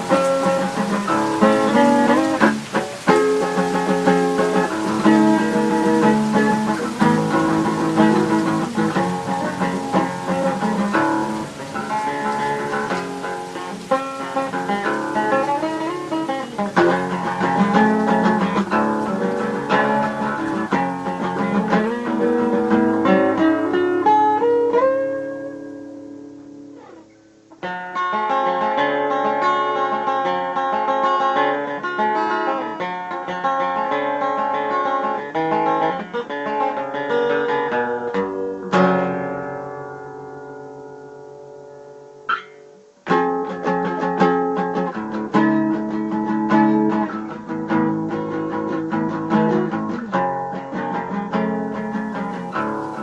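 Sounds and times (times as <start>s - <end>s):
acoustic guitar picking: 0.0s - 53.0s.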